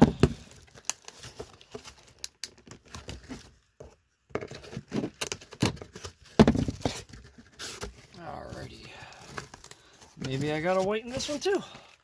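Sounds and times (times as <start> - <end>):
paper and plastic crinkling: 0.0 - 12.0.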